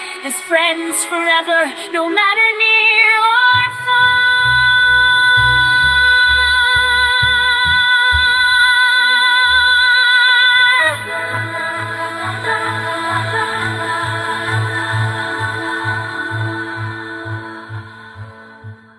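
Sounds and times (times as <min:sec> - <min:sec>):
backing music with pulsing bass: 0:03.4 - 0:18.9.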